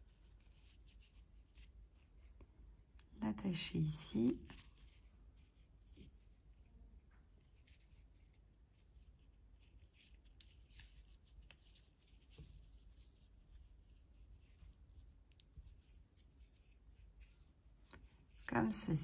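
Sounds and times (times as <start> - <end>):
yarn rustling through jute: 0.0 - 19.0.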